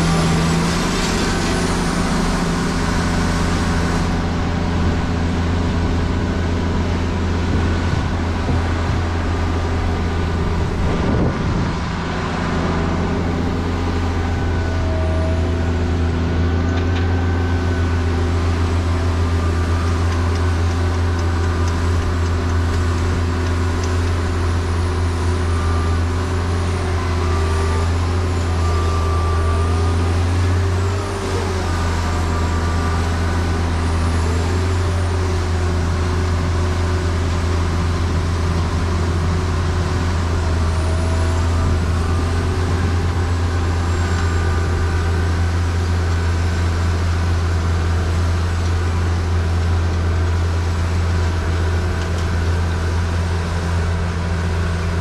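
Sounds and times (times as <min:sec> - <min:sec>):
diesel machinery droning: 0:00.0 - 0:55.0.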